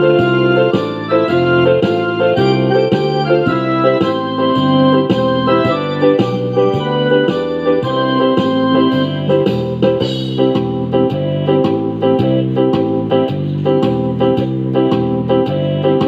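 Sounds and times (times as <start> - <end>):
keyboard or organ chords: 0.0 - 16.0.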